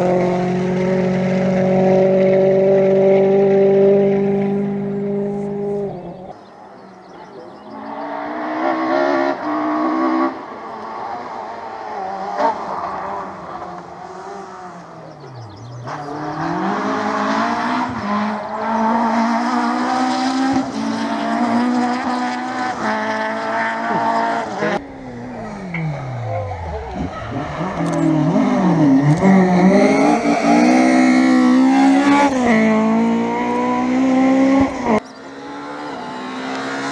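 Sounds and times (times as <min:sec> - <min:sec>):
rally car engine revving: 0:00.0 - 0:06.4, 0:07.6 - 0:36.9.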